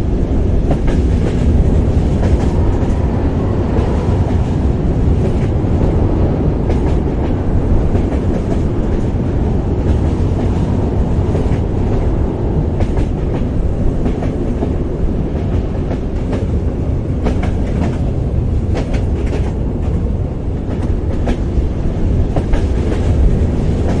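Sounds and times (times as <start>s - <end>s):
train rumbling along track: 0.0s - 24.0s
wheels clicking on rails: 0.0s - 24.0s.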